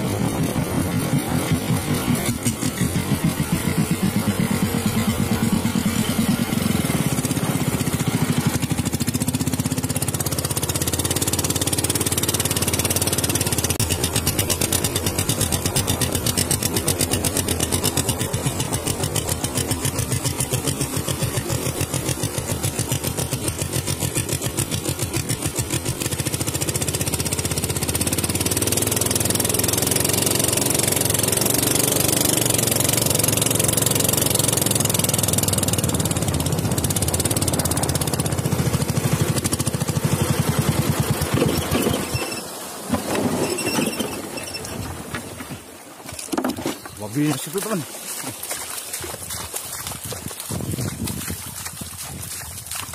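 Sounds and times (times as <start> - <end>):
boat engine putter: 0.0 - 52.9
water rushing past hull: 0.0 - 52.9.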